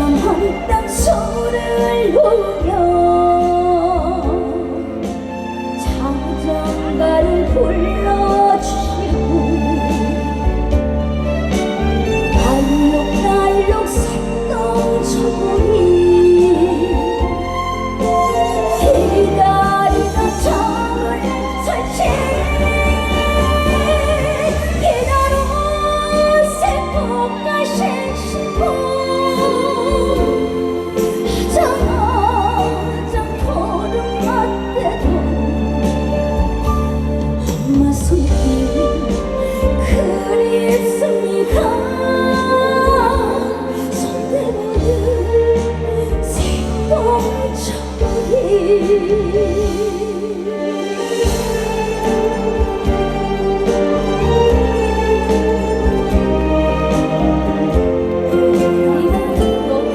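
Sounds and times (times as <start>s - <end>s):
band accompaniment: 0.0s - 59.9s
woman singing a ballad: 0.0s - 59.9s.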